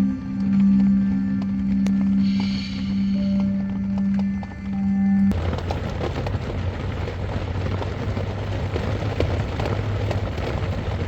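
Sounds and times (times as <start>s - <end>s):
low rumble: 0.0s - 11.0s
heavy rain pouring: 0.1s - 11.0s.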